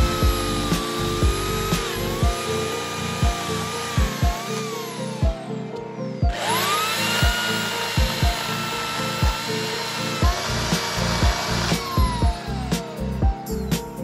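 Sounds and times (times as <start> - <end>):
electric chainsaw cutting wood: 0.0 - 13.8
background music with steady beat: 0.0 - 14.0.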